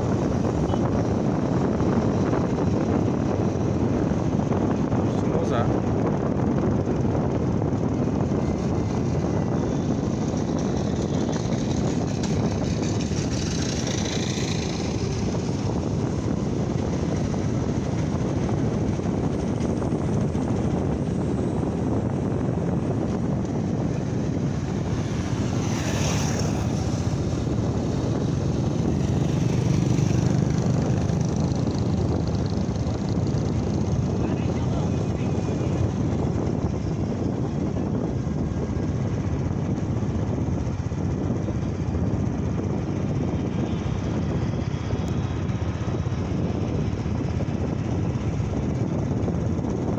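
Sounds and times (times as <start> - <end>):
motorcycle engine cruising: 0.0 - 49.9
wind on microphone: 0.0 - 49.9.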